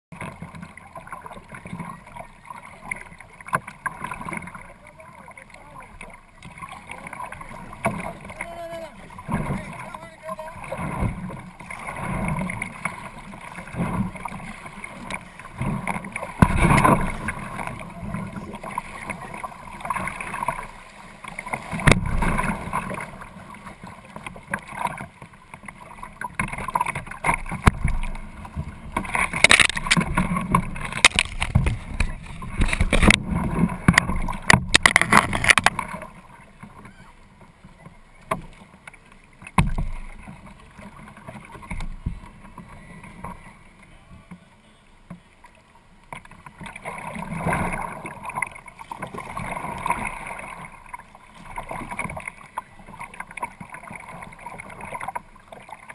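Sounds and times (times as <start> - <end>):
paddle strokes splashing: 0.1 - 55.9
water sloshing against hull: 0.1 - 55.9.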